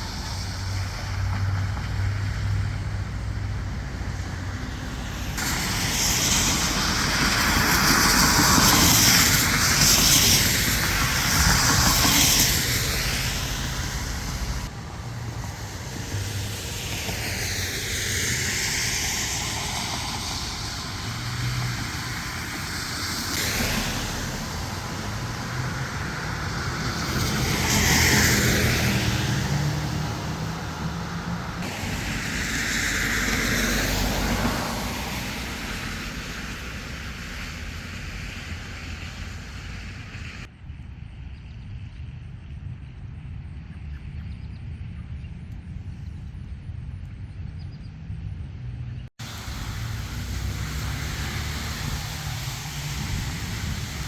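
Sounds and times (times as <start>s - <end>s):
cars passing: 0.0s - 40.5s, 48.1s - 54.0s
steady traffic hum: 0.0s - 54.0s.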